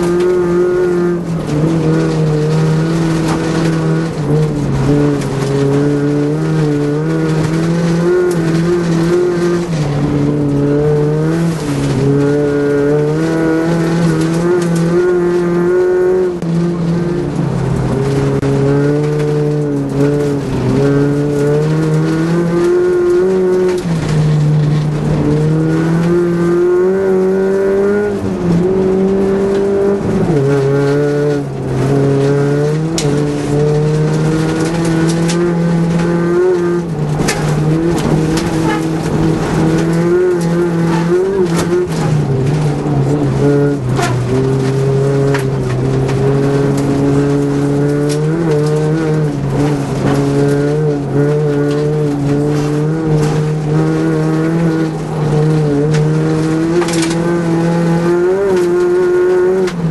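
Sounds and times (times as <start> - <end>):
rally car engine accelerating: 0.0 - 59.9.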